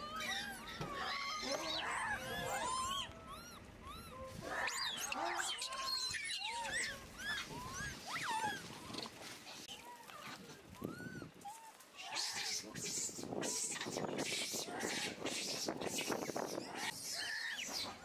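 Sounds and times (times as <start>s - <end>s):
macaques coo calling: 0.0s - 18.0s.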